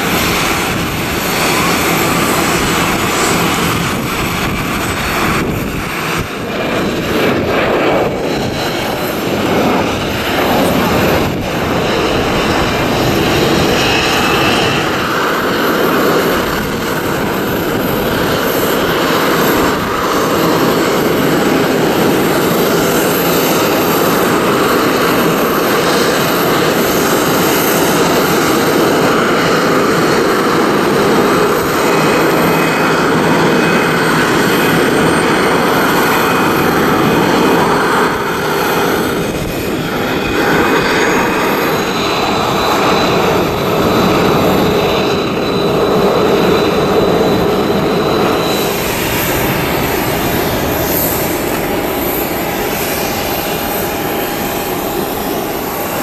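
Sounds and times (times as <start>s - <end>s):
jet engine noise: 0.0s - 56.0s.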